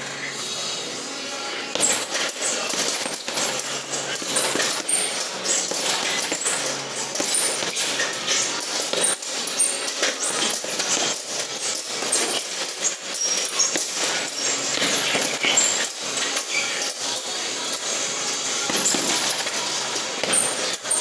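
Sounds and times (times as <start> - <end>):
punches hitting heavy bag: 1.8 - 17.3, 18.7 - 21.0
metallic clinking and jingling: 1.8 - 21.0.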